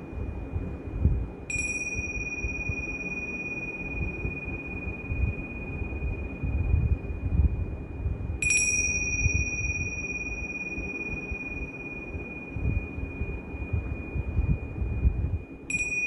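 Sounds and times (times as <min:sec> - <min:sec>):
tingsha cymbals ringing: 0:01.4 - 0:07.4, 0:08.4 - 0:16.0.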